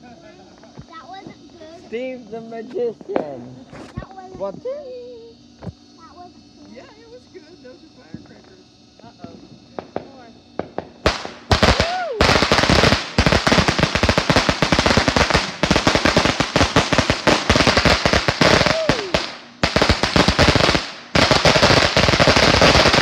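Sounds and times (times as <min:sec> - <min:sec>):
firecrackers popping: 0:00.0 - 0:23.0.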